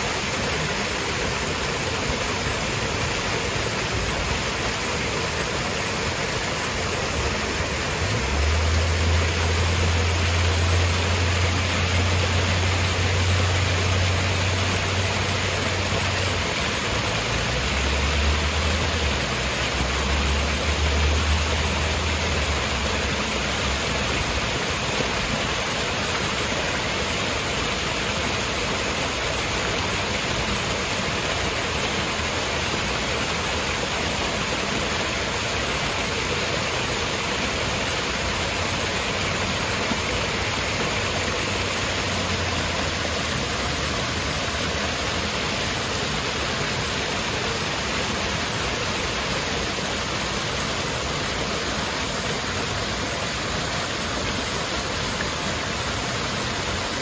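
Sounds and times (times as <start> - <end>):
waterfall splashing over rocks: 0.0 - 57.0.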